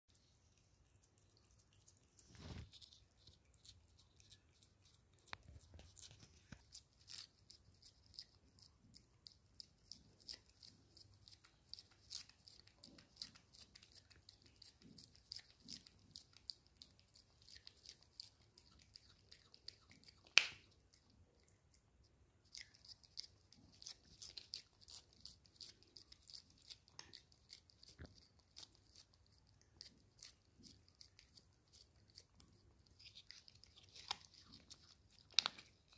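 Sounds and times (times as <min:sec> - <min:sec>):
cat licking: 0:00.1 - 0:35.9.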